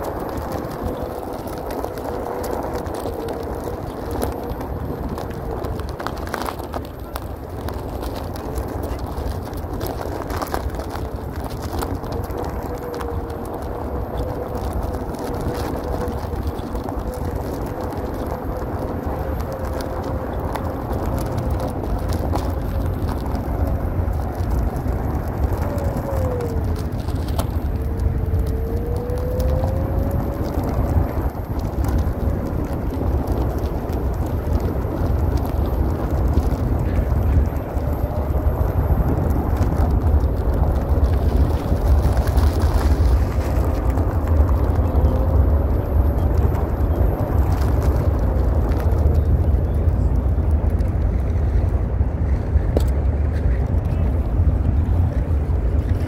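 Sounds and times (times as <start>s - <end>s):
tyre rumbling on asphalt: 0.0s - 56.0s.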